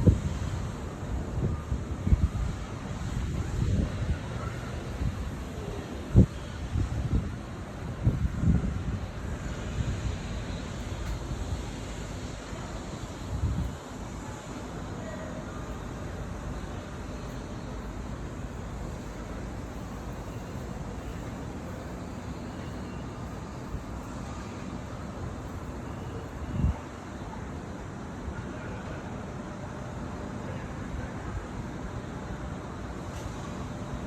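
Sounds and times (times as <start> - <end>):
city street rumble: 0.0 - 34.0.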